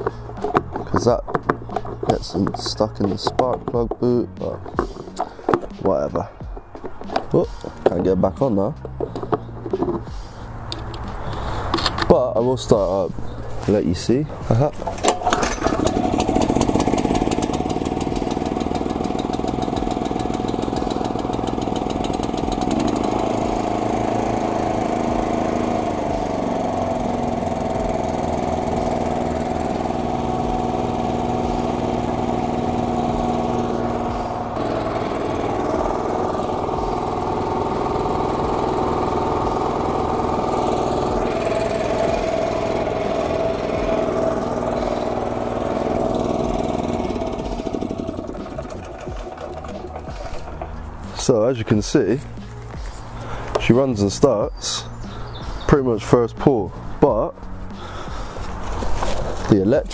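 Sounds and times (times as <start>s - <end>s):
petrol engine pull-started and running: 0.0s - 59.9s.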